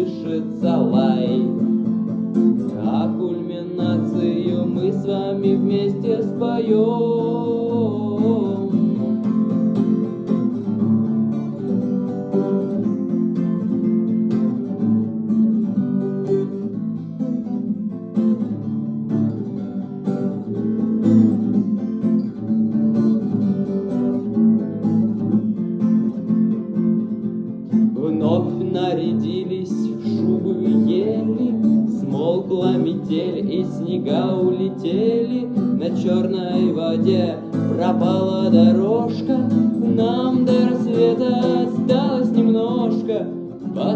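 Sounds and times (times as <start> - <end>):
guitar strumming chords: 0.0 - 43.9.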